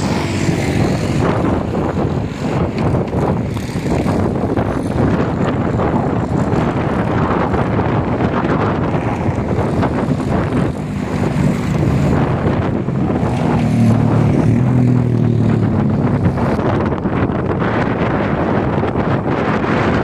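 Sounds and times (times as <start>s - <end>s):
motor engine droning: 0.0s - 20.0s
wind buffeting microphone: 0.0s - 20.0s.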